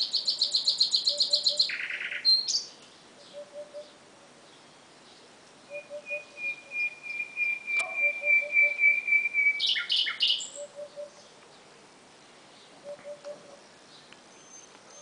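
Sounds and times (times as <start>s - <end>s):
nightingale singing: 0.0s - 11.7s, 12.3s - 15.0s.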